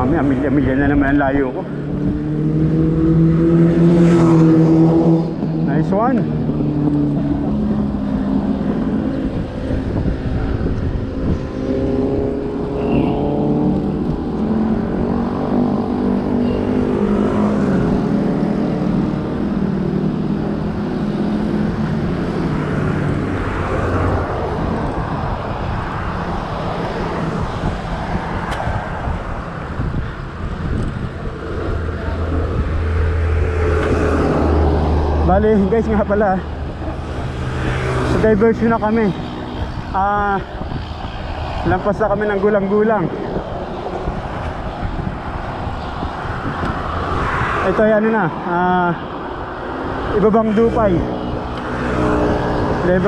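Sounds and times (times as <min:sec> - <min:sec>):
low road noise: 0:00.0 - 0:53.0.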